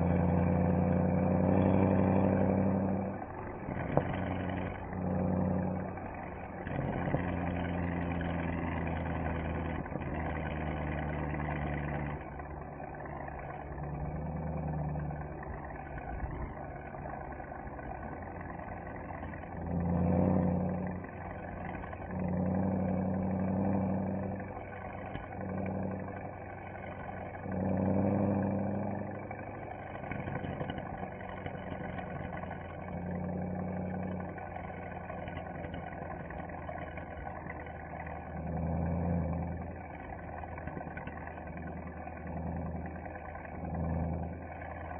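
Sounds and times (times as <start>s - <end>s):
car engine and exhaust: 0.0s - 44.9s.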